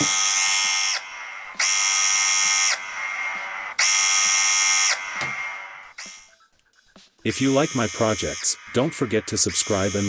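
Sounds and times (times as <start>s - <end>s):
phone alarm buzz: 0.0s - 6.4s, 7.3s - 8.8s, 9.4s - 10.0s
faint alarm tone: 0.0s - 6.5s, 7.3s - 10.0s.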